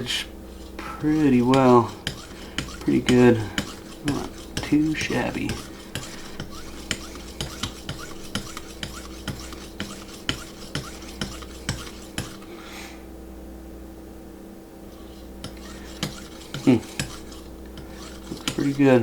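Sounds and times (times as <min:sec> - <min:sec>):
sharpener stroking knife edge: 0:00.5 - 0:12.5, 0:15.0 - 0:19.0.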